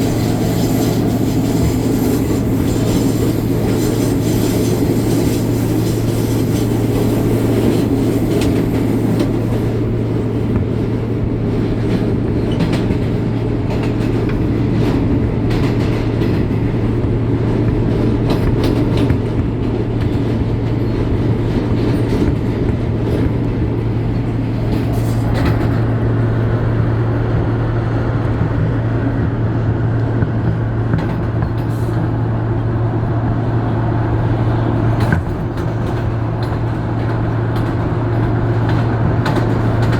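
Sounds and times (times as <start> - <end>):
subway car rumble and hum: 0.0 - 39.9.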